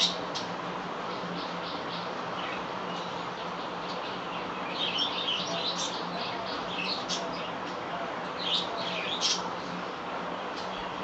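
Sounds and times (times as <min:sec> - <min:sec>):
small birds chirping: 0:00.0 - 0:11.0
steady background hum: 0:00.0 - 0:11.0.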